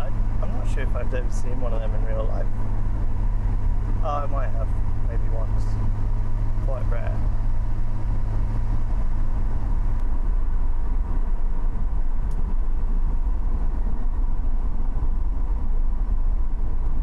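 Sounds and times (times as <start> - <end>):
car engine and road noise: 0.0 - 17.0
low steady hum: 0.0 - 17.0.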